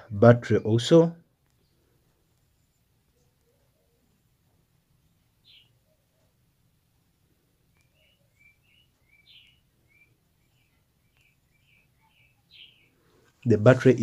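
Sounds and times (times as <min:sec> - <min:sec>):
faint bird chirps: 0:01.4 - 0:13.5.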